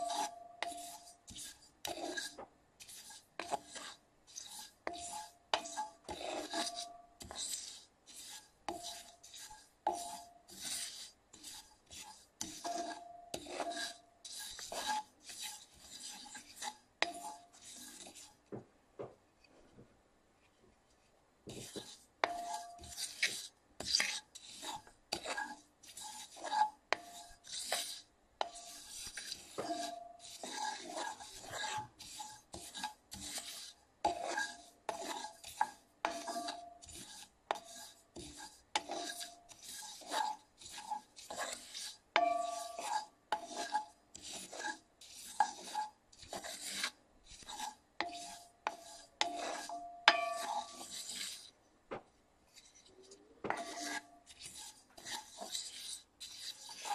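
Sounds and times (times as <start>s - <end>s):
spatula stirring seeds in skillet: 0.0s - 18.5s, 21.5s - 51.6s, 52.5s - 56.9s.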